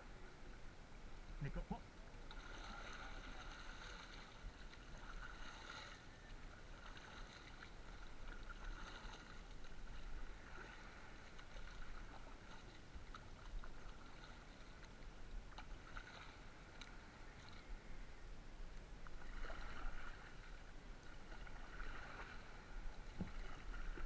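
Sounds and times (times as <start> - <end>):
paddle strokes: 1.3 - 18.0, 18.6 - 24.0
water splashing and lapping: 1.5 - 18.0, 18.8 - 24.0.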